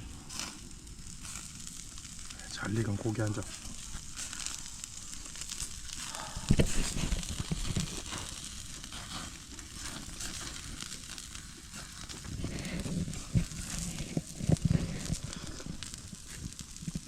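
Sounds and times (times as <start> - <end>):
fire crackling: 0.0 - 17.0
meat sizzling on a grill: 0.0 - 17.0.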